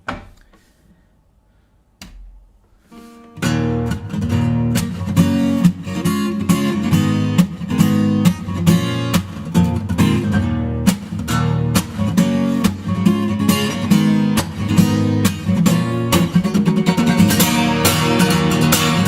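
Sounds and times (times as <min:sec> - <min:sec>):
acoustic guitar strumming: 0:02.9 - 0:19.0.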